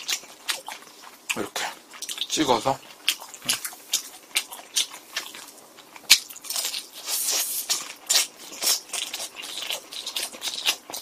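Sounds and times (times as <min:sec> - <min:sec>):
crunchy chewing of fried chicken: 0:00.0 - 0:11.0.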